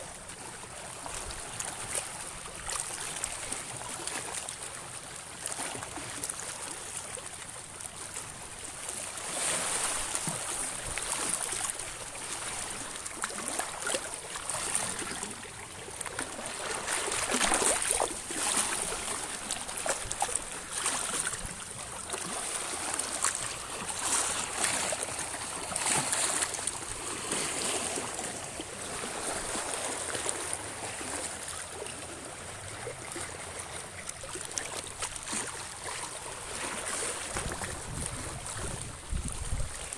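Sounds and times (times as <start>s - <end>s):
waves lapping over rocks: 0.0s - 39.9s.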